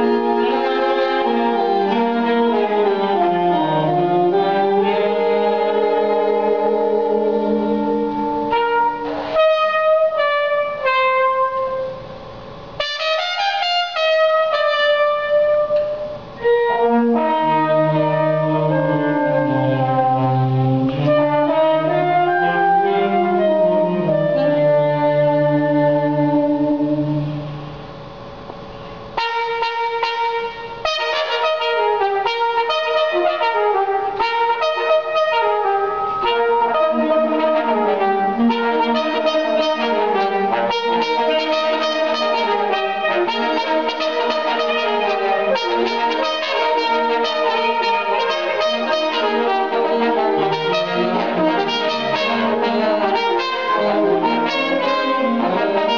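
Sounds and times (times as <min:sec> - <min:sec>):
horn section playing jazz: 0:00.0 - 0:55.9.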